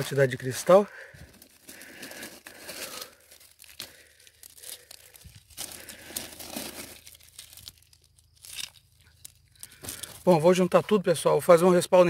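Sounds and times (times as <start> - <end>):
hand scraping through gravel: 0.0 - 10.4.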